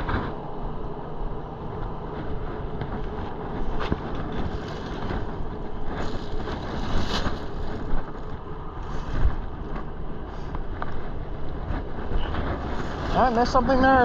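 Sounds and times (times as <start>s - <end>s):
road traffic passing: 0.0s - 14.0s
wind on microphone: 0.0s - 14.0s.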